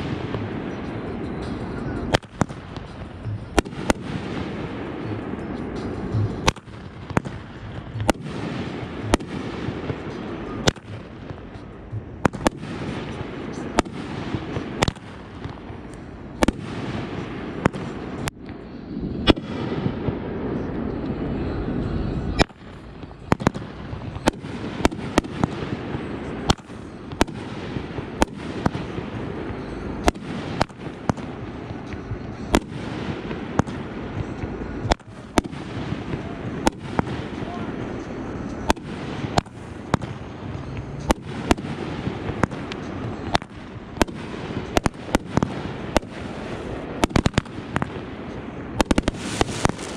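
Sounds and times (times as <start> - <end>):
background rushing noise: 0.0 - 49.9
fireworks banging: 0.0 - 49.9.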